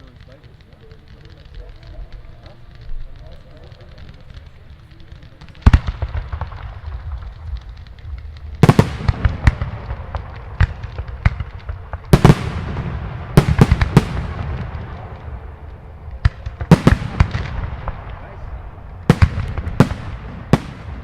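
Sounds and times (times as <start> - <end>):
firework shells bursting: 0.0 - 21.0
low rumble with crackling: 0.0 - 21.0.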